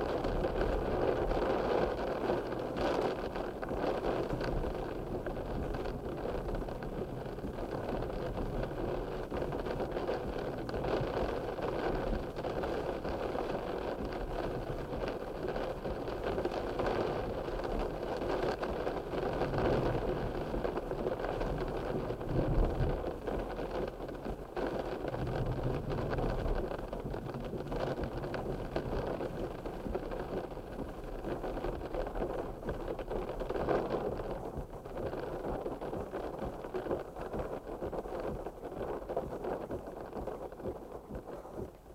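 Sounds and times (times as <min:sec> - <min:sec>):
low rumble: 0:00.0 - 0:41.9
rain: 0:00.0 - 0:41.9.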